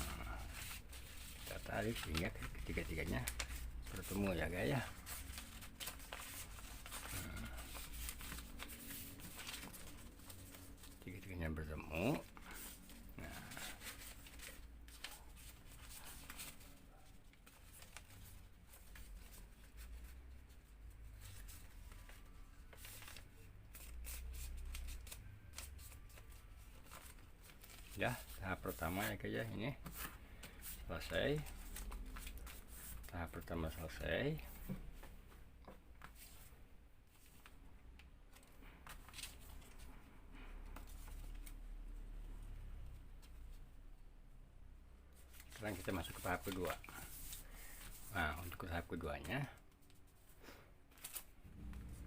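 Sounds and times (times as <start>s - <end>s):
paper rustling and crinkling: 0.0s - 35.1s, 38.3s - 40.0s, 45.2s - 52.0s.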